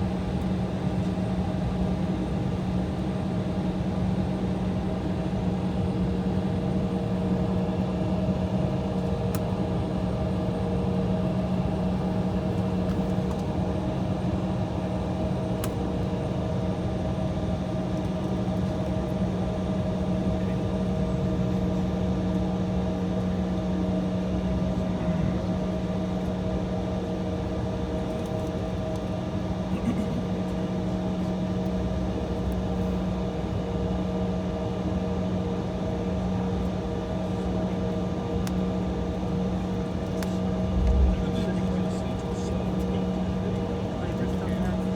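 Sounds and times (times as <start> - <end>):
jet engine drone in cabin: 0.0 - 44.9.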